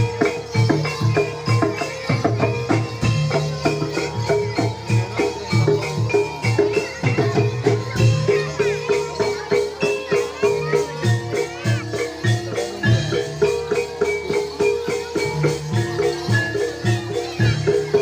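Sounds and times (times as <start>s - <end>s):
drums: 0.0s - 18.0s
struck metal percussion: 0.0s - 18.0s.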